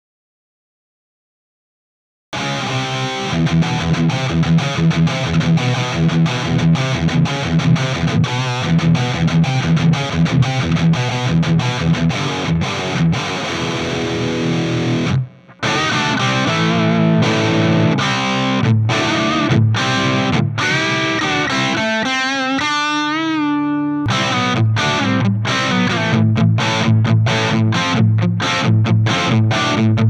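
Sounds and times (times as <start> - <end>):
distorted electric guitar: 2.4 - 30.0.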